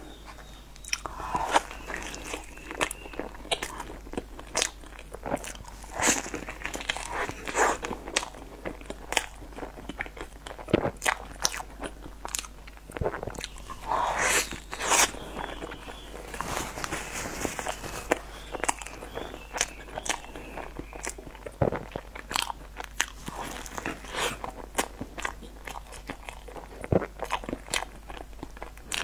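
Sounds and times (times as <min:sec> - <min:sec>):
person chewing cake: 0:00.0 - 0:29.0.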